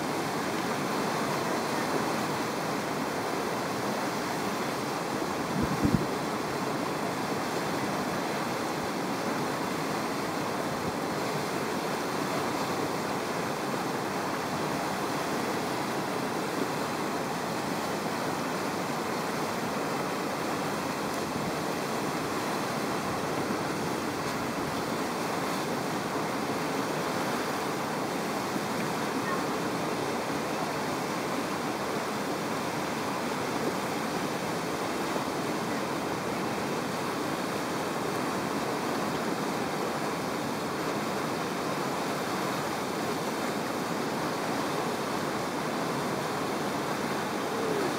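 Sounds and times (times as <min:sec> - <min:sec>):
rapids rushing: 0:00.0 - 0:47.9.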